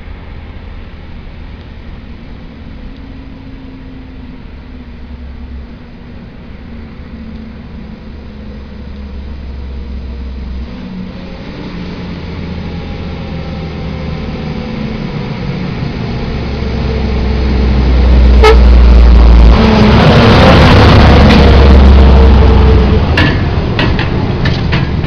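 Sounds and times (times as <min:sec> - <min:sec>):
diesel truck engine: 0:00.0 - 0:25.0.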